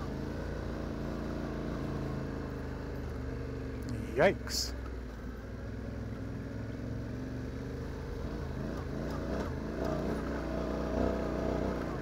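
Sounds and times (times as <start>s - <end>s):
motorcycle engine running under load: 0.0s - 12.0s.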